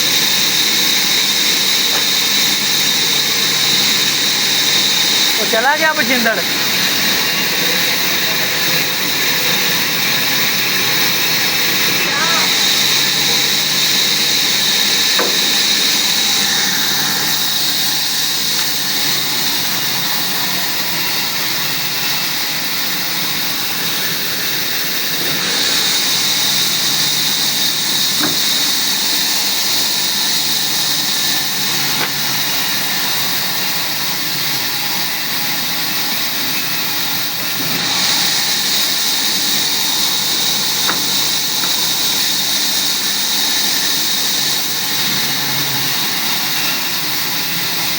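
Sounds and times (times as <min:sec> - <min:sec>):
woodworking machine whining: 0:00.0 - 0:47.9.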